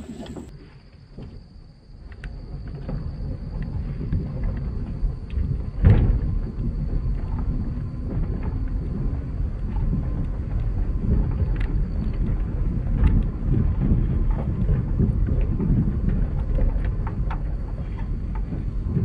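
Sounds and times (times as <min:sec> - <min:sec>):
wind buffeting microphone: 0:00.0 - 0:00.5, 0:02.1 - 0:19.0.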